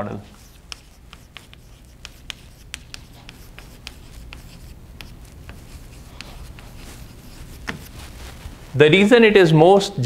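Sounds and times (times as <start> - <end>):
low steady hum: 0.0 - 10.0
chalk tapping on blackboard: 0.3 - 8.4.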